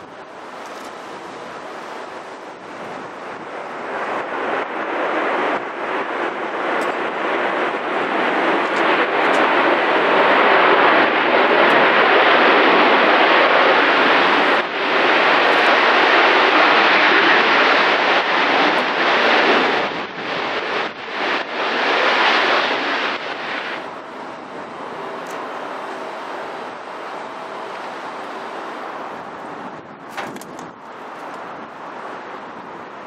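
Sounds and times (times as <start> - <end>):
jet engines running loudly: 0.0 - 33.0.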